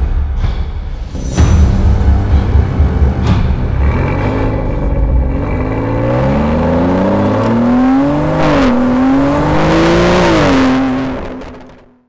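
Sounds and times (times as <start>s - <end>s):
car engine accelerating: 1.9s - 12.0s.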